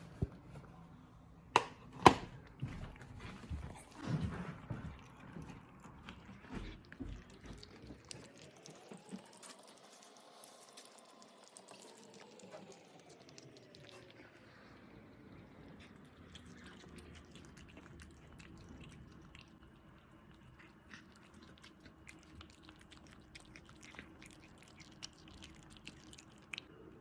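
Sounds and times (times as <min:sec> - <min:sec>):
cats eating raw meat: 0:02.4 - 0:27.0.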